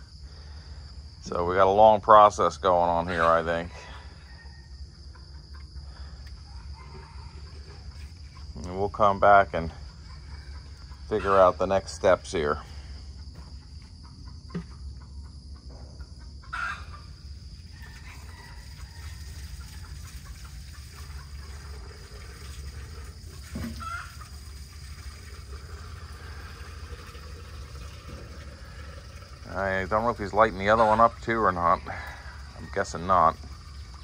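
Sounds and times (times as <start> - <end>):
chickens clucking: 2.8 - 34.0.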